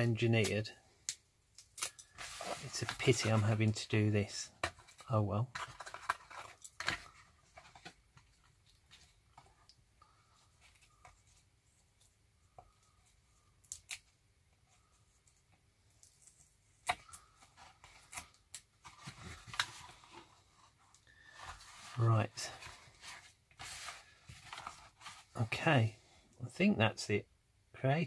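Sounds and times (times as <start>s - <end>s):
rustling: 1.8s - 25.5s.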